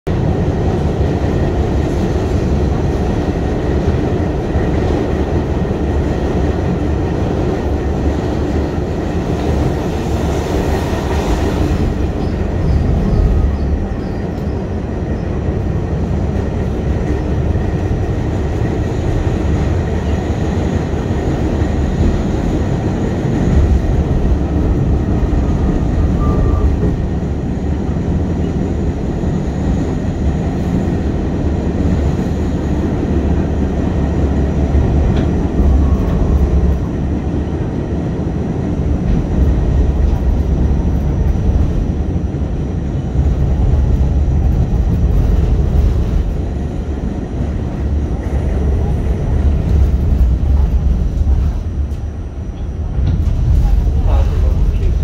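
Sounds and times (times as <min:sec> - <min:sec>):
subway train wheels rumbling: 0:00.0 - 0:55.0.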